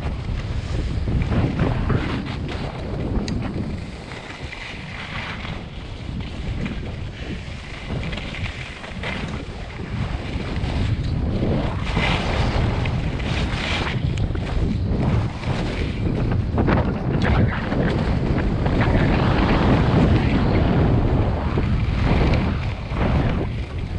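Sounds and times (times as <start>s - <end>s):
skis sliding over snow: 0.0s - 23.9s
wind buffeting microphone: 0.0s - 23.9s.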